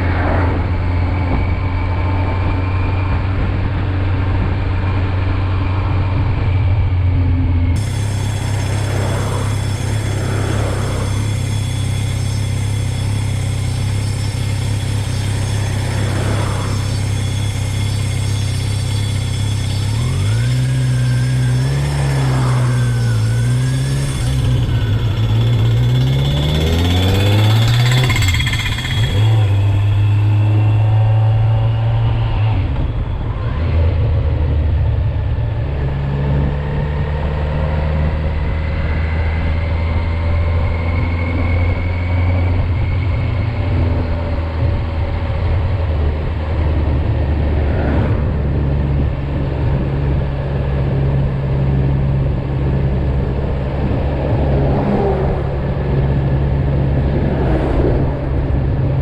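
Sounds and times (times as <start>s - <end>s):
motorcycle engine revving: 7.7s - 59.0s.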